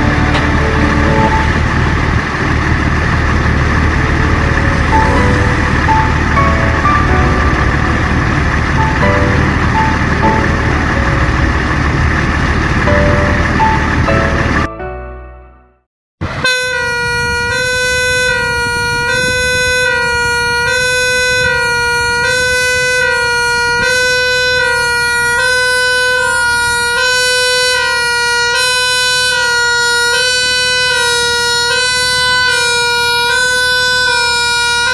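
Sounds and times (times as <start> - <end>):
fire engine two-tone siren: 0.0 - 14.8, 16.2 - 34.9.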